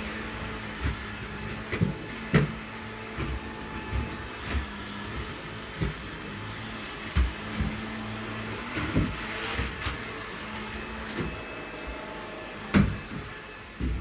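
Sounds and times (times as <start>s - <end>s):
vacuum cleaner knocks and thumps: 0.0s - 14.0s
vacuum cleaner running: 0.0s - 14.0s.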